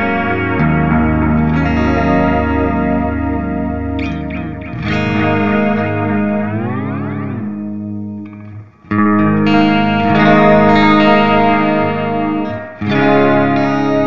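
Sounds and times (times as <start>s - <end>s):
electric guitar chords with delay: 0.0s - 14.0s.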